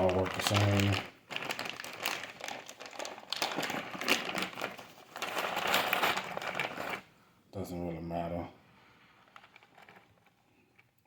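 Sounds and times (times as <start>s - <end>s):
plastic rustling: 0.0s - 7.2s, 8.8s - 11.0s.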